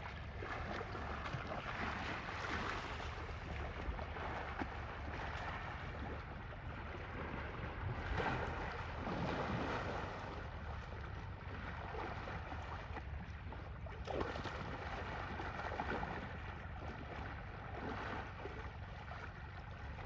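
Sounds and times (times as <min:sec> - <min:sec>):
water sloshing and splashing: 0:00.0 - 0:20.0
wind rumbling on microphone: 0:00.0 - 0:20.0.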